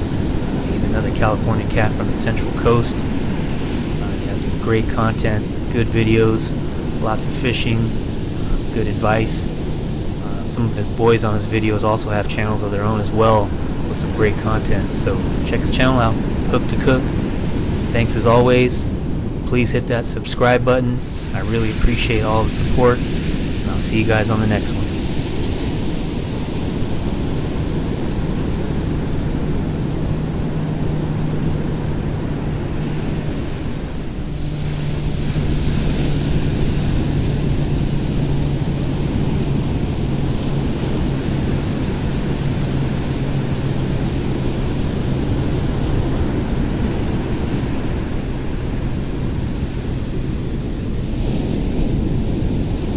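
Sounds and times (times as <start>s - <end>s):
ocean surf breaking on beach: 0.0s - 52.9s
steady low hum: 0.0s - 52.9s
wind buffeting microphone: 0.0s - 52.9s.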